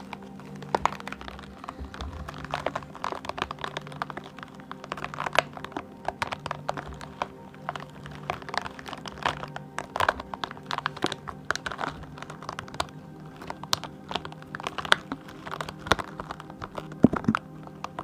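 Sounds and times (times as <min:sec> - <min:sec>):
soft background music: 0:00.0 - 0:18.0
soft clicks taps and crinkles: 0:00.0 - 0:18.0.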